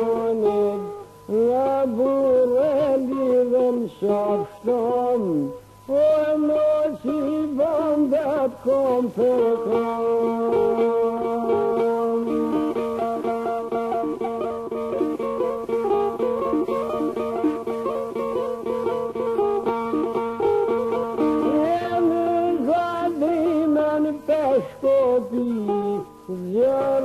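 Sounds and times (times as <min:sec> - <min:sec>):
ornamented singing voice: 0:00.0 - 0:27.0
plucked lute folk music: 0:00.0 - 0:27.0.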